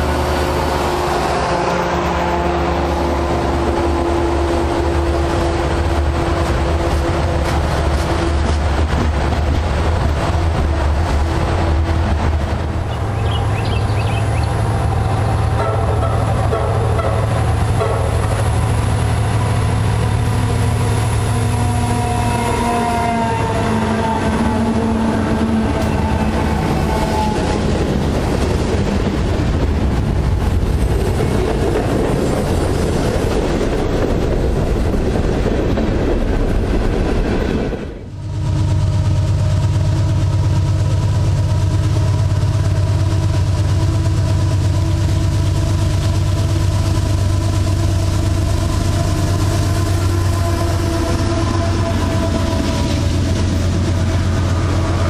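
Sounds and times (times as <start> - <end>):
diesel locomotive engine: 0.0 - 55.0
train wheels rumbling on rails: 0.0 - 55.0.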